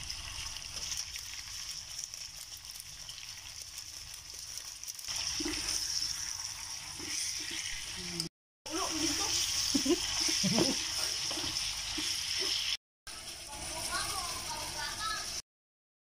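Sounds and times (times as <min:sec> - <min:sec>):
food sizzling in a pan: 0:00.0 - 0:15.4.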